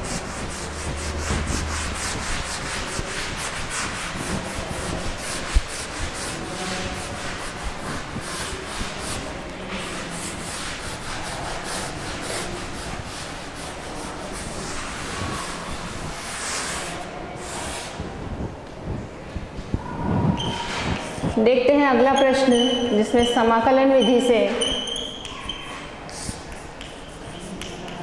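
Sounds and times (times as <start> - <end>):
duster wiping chalk off blackboard: 0.0 - 18.1, 22.2 - 28.0.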